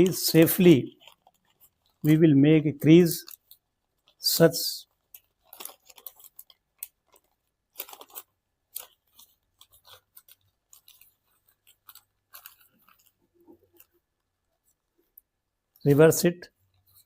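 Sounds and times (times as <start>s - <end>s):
paper being folded and creased: 0.0s - 2.3s, 2.9s - 14.9s.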